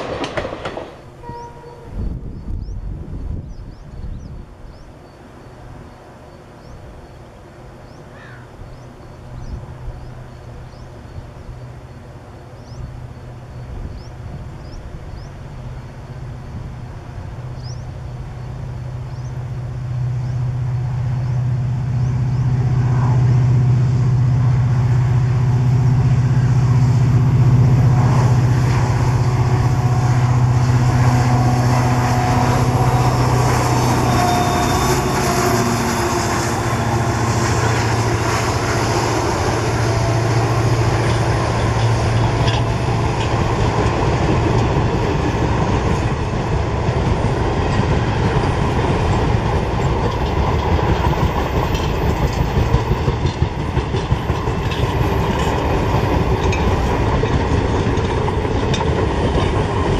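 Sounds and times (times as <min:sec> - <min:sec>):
diesel locomotive engine hum: 0:00.0 - 0:59.9.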